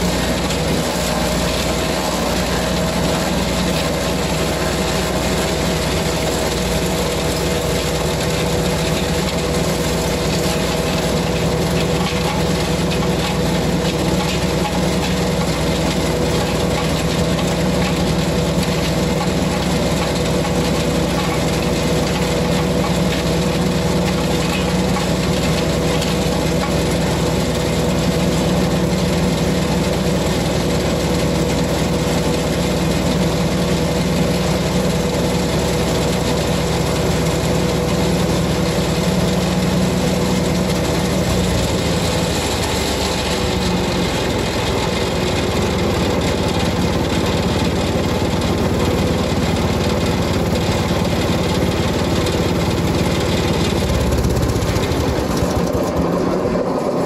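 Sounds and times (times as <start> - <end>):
wood chipper engine running: 0.0 - 57.0.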